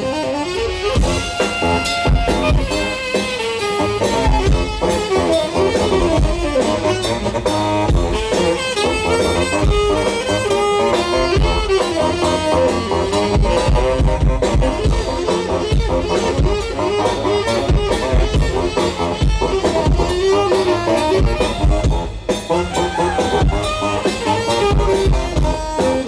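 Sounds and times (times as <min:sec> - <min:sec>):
drum kit groove: 0:00.0 - 0:26.0
saxophone melody: 0:00.0 - 0:26.0.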